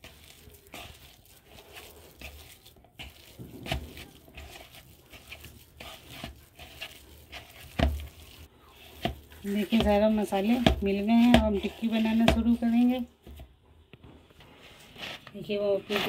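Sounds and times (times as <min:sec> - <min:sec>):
hand squishing mashed potato: 0:00.0 - 0:16.0.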